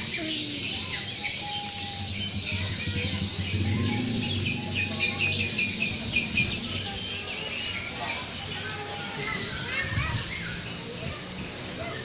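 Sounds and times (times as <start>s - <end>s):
many birds chirping: 0.0s - 12.0s.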